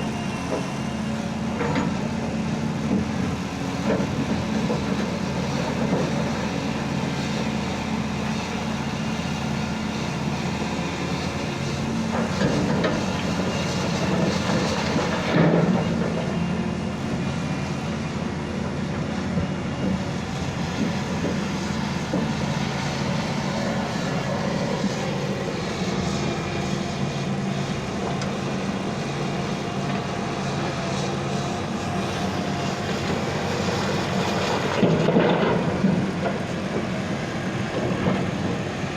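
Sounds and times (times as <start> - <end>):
diesel excavator engine running: 0.0 - 38.9.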